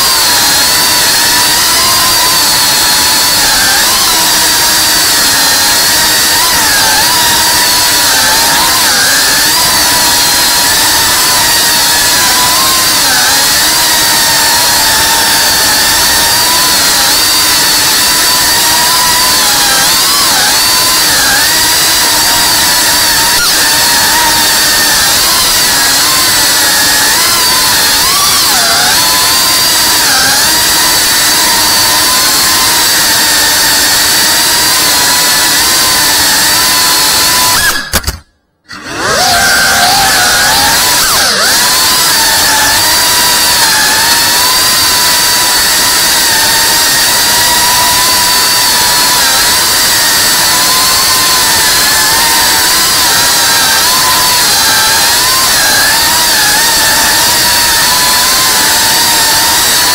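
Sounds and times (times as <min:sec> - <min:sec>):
drone motors and propellers whining: 0:00.0 - 0:59.9.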